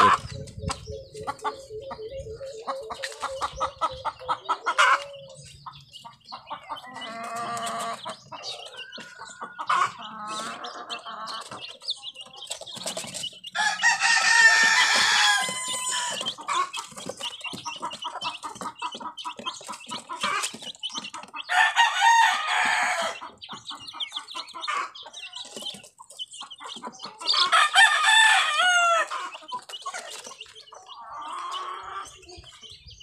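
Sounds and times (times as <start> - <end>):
chickens clucking: 0.0 - 33.0
roosters crowing: 1.2 - 12.2, 13.4 - 20.7, 21.3 - 25.8, 27.0 - 30.2, 30.8 - 32.2.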